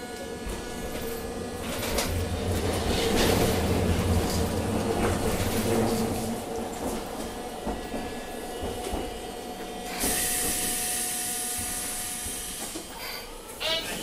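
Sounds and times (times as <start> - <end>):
tram motor whine: 0.0 - 14.0.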